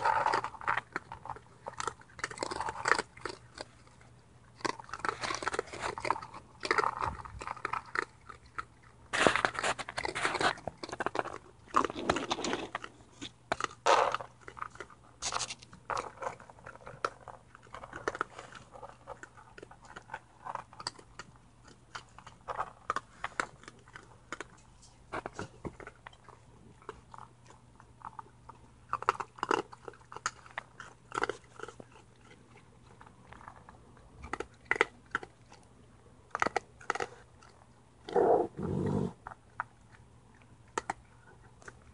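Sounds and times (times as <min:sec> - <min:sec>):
raccoons crunching dry kibble: 0:00.0 - 0:41.9.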